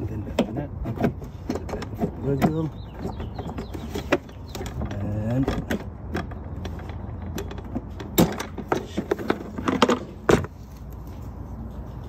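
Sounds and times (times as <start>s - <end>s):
plastic tray knocking and scraping: 0.2s - 10.6s.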